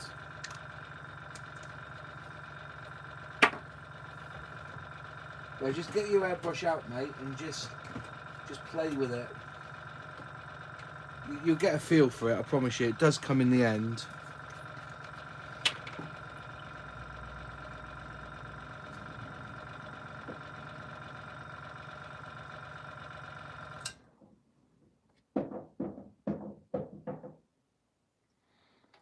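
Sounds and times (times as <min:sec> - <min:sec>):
compressor motor humming: 0:00.0 - 0:24.0.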